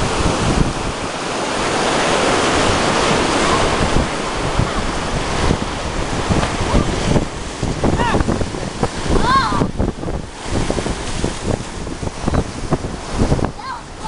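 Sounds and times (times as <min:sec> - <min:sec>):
surf washing against rocks: 0:00.0 - 0:14.0
wind buffeting microphone: 0:00.0 - 0:14.0.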